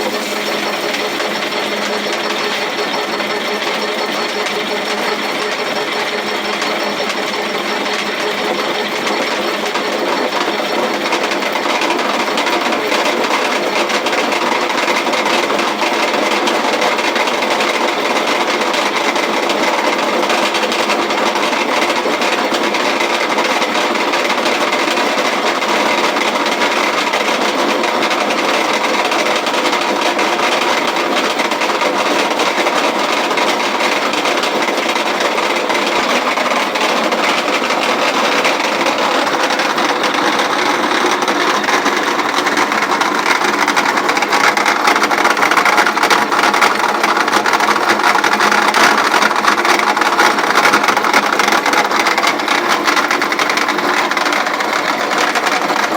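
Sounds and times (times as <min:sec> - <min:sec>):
roller mill rattling: 0:00.0 - 0:55.9.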